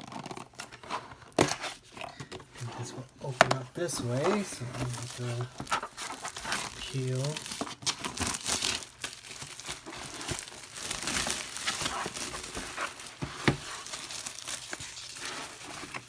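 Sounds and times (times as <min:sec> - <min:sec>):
packaging crinkling and tearing: 0:00.0 - 0:16.0.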